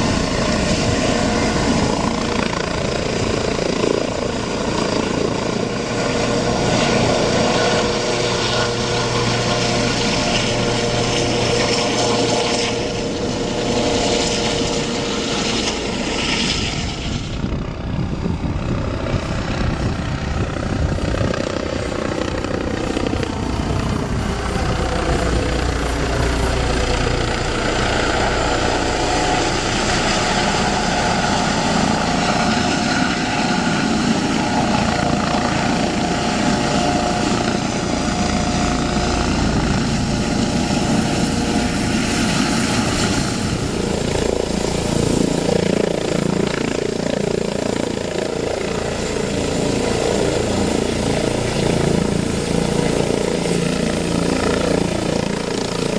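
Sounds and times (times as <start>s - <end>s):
helicopter rotor and turbine whine: 0.0s - 55.9s.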